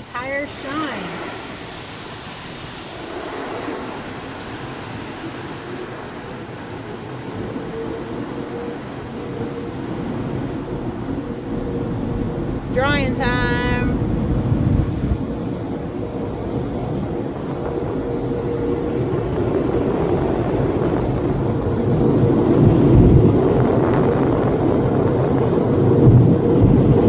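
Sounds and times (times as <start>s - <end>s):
car wash rushing noise: 0.0s - 27.0s
low hum: 0.0s - 27.0s.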